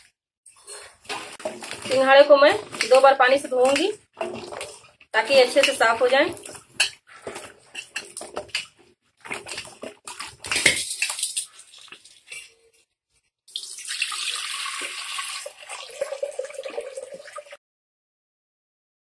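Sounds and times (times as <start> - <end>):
water pouring into a steel pot: 0.6 - 12.6, 13.5 - 17.6.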